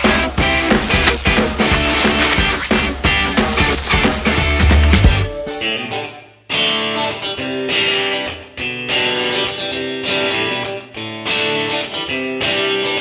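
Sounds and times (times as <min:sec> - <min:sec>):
guitar background music: 0:00.0 - 0:13.0.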